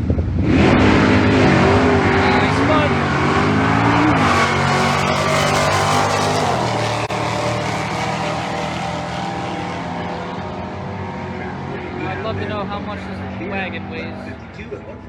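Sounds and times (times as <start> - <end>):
drag cars racing: 0.0 - 15.0.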